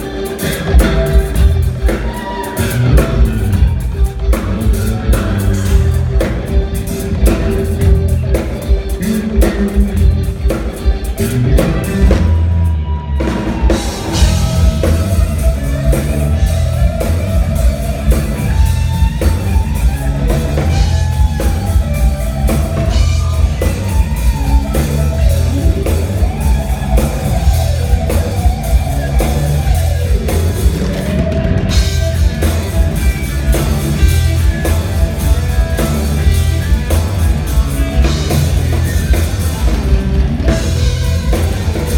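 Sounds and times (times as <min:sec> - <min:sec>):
drum kit beat: 0:00.0 - 0:41.9
electric guitar lead line: 0:00.0 - 0:41.9.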